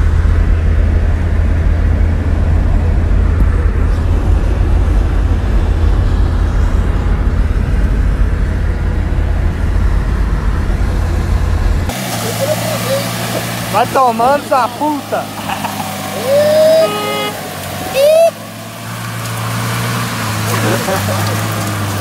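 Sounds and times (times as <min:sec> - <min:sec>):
car engine drone: 0:00.0 - 0:22.0
tyres on wet road: 0:00.0 - 0:22.0.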